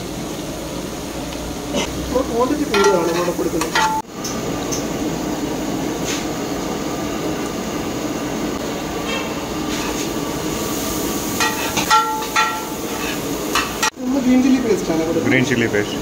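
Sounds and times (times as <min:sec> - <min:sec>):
kitchen equipment roar: 0:00.0 - 0:16.0.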